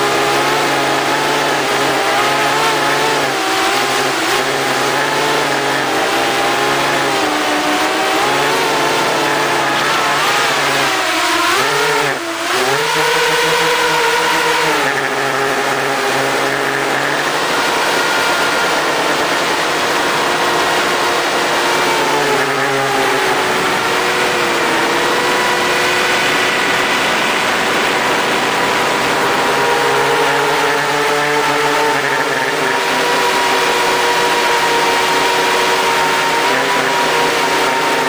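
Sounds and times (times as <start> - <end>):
drone motors whining: 0.0 - 38.0.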